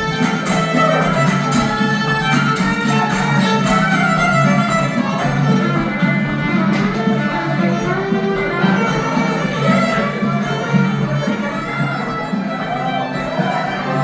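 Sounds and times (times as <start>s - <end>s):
fiddle melody: 0.0s - 14.0s
low accompaniment: 0.0s - 14.0s.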